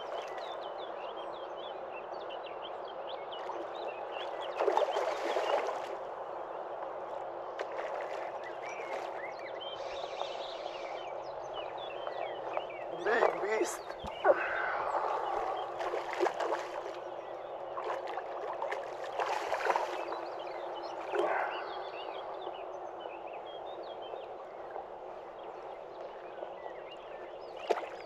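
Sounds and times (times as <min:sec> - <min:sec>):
water lapping: 0:03.3 - 0:28.0.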